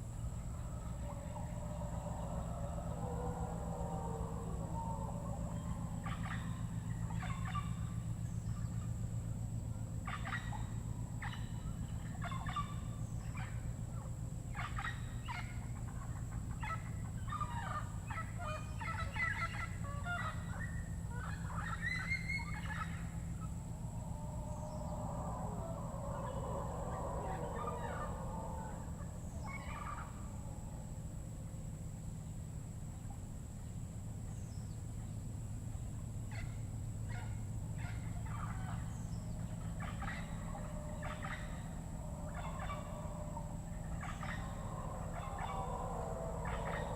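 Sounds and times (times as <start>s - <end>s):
steady low hum: 0.0s - 46.9s
birds giving rough fowl-like calls: 0.4s - 8.8s, 10.0s - 31.0s, 36.3s - 46.9s.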